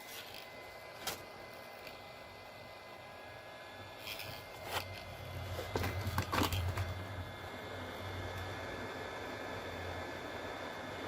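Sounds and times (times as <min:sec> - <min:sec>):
hot-air rework station hissing: 0:00.0 - 0:11.0.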